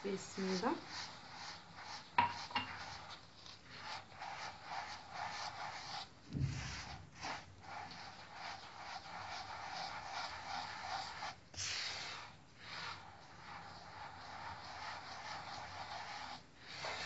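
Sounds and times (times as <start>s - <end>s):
hand rubbing gritty grains: 0.0s - 17.0s.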